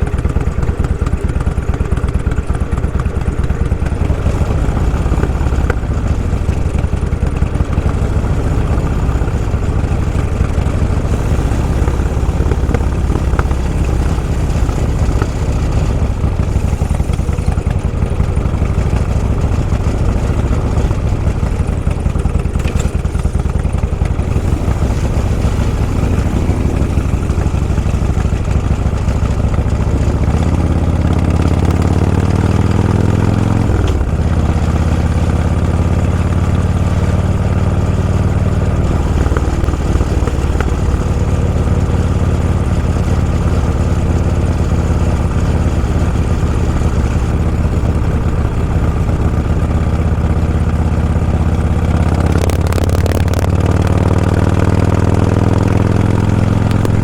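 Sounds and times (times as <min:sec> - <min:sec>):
deeper engine note: 0:00.0 - 0:57.0
road and wind noise: 0:00.0 - 0:57.0
vehicle engine running: 0:00.0 - 0:57.0.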